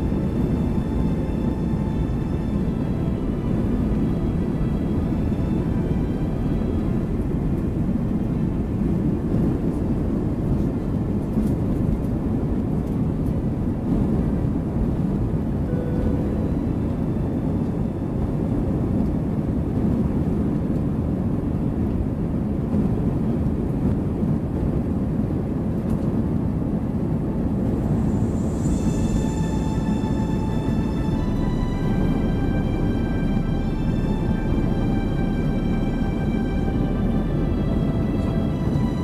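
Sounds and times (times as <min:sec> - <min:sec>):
jet engine and airflow rumble: 0:00.0 - 0:39.0.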